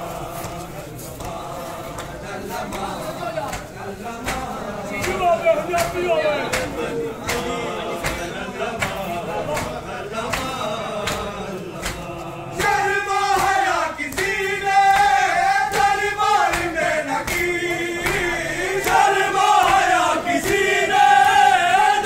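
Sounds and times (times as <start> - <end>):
men chanting in unison: 0.0 - 22.0
hands slapping chests: 0.4 - 21.8.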